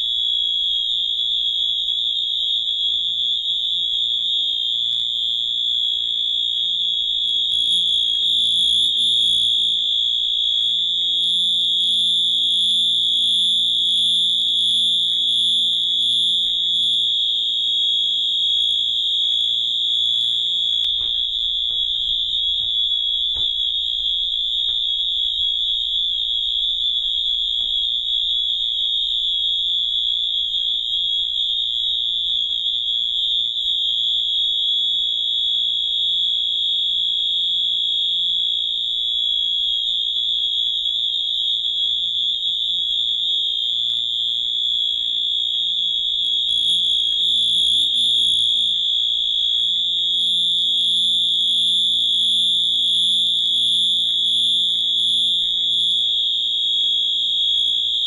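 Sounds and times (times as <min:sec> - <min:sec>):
fire alarm high-pitched tone: 0:00.0 - 0:58.0.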